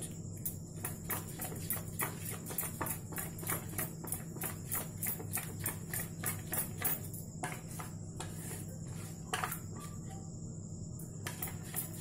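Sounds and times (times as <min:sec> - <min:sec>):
spoon stirring batter in steel bowl: 0:00.8 - 0:10.1, 0:11.2 - 0:12.0.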